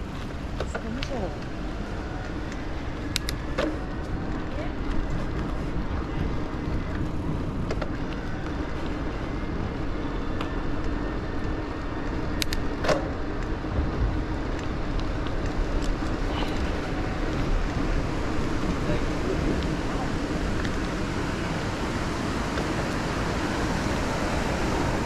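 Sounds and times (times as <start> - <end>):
steady hum: 0.0 - 25.0
tyres on pavement: 0.0 - 25.0
wind rumbling on microphone: 0.0 - 25.0.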